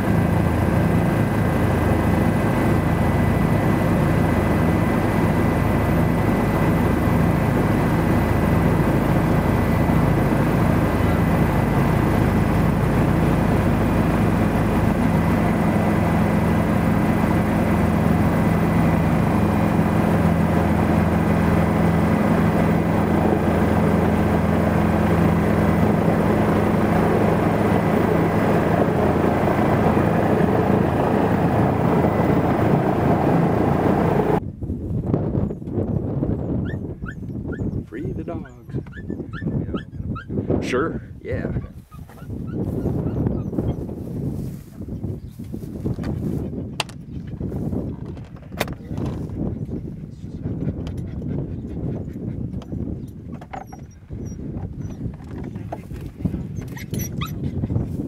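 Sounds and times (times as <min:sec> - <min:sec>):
helicopter drone: 0:00.0 - 0:34.5, 0:35.4 - 0:58.0.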